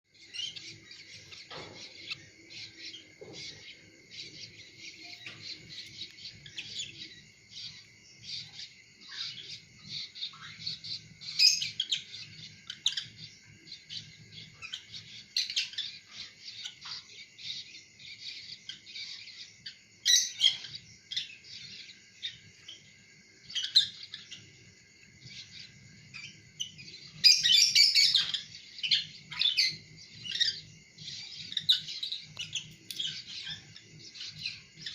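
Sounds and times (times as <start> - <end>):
lovebirds chirping and chattering: 0.1 - 34.9.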